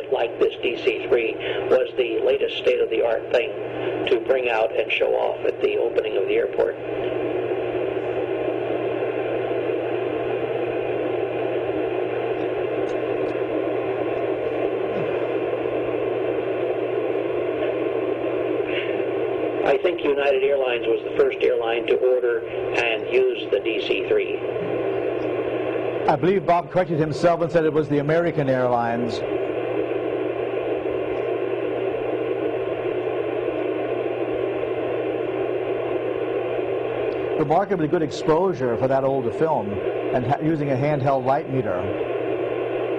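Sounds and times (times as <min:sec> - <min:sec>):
faint low hum: 0:00.0 - 0:42.9
steady hiss: 0:00.0 - 0:42.9.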